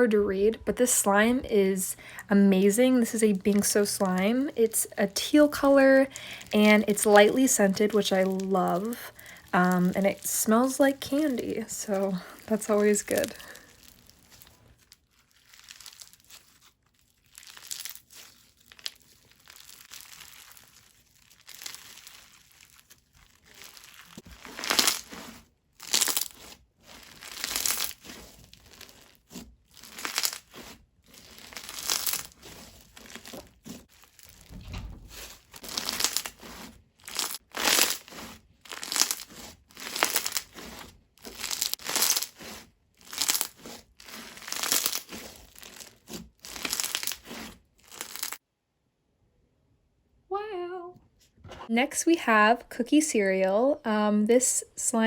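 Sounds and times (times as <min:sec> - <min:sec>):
slime beads crunching: 0:01.8 - 0:48.4.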